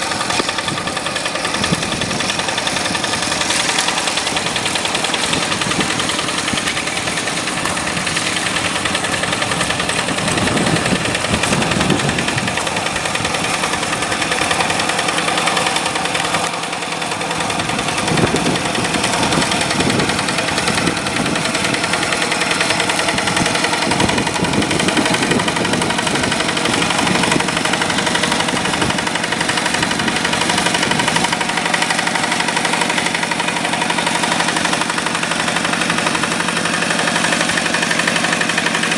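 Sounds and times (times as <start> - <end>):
tractor diesel engine knocking: 0.0 - 38.9.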